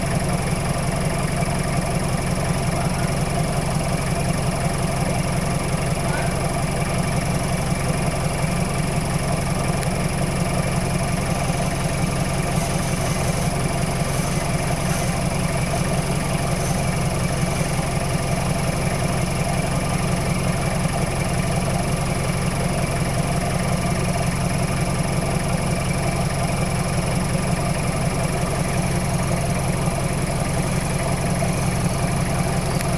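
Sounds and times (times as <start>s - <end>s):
vehicle engine idling: 0.0s - 32.9s.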